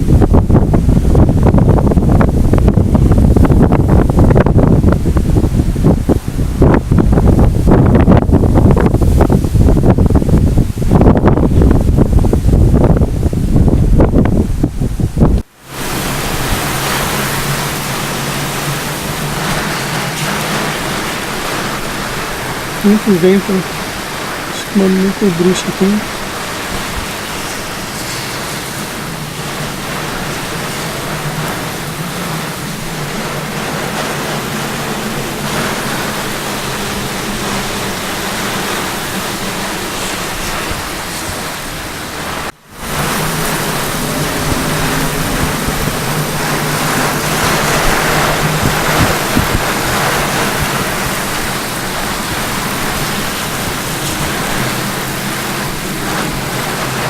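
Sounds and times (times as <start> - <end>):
heavy rain with wind: 0.0 - 57.0.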